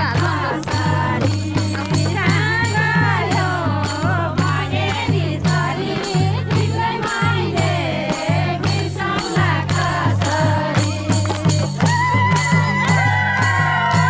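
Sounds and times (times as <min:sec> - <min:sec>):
music with steady beat and bass line: 0:00.0 - 0:14.0.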